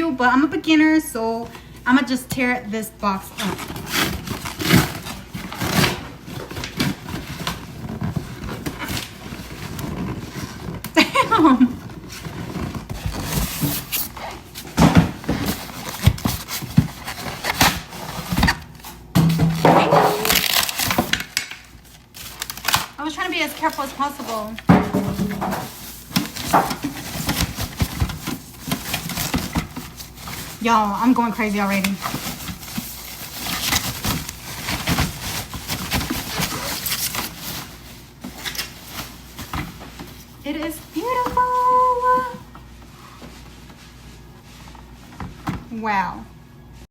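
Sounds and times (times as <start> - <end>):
cardboard ripping and rustling: 3.3 - 43.7.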